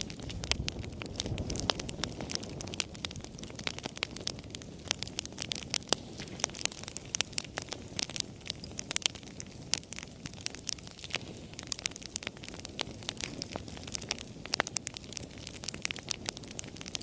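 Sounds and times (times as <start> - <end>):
fire crackles and pops: 0.0 - 17.0
low rush of flame: 0.0 - 17.0.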